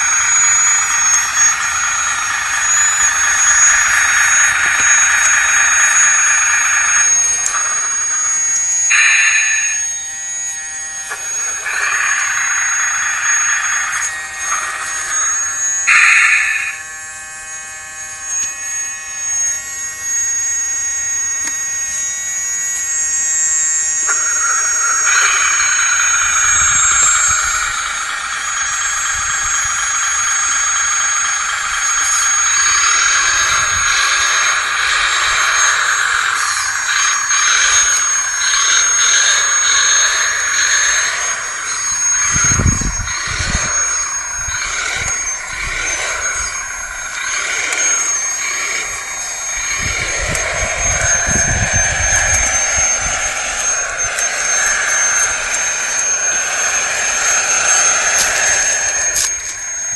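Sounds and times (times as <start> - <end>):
hissing whirr: 0.0 - 59.9
hydraulic pump whining: 0.0 - 59.9.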